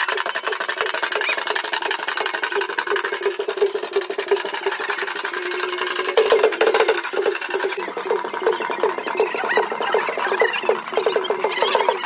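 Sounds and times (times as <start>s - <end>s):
rapid percussion: 0.0s - 12.0s.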